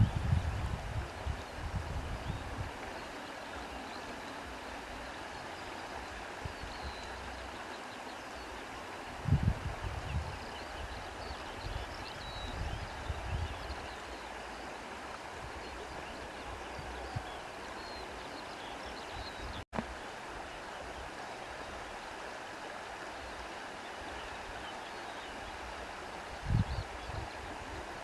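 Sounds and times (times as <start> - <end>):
stream water flowing: 0.0 - 28.0.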